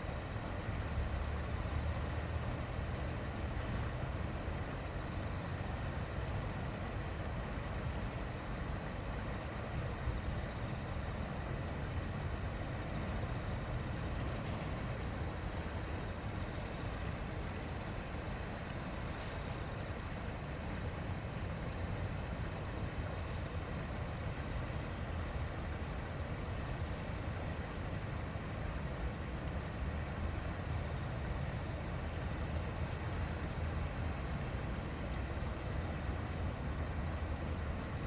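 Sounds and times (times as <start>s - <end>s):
stream babbling: 0.0s - 38.0s.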